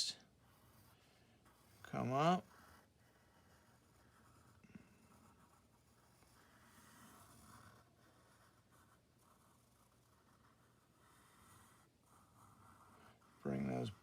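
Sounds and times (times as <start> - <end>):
pen scratching on paper: 0.2 - 14.0.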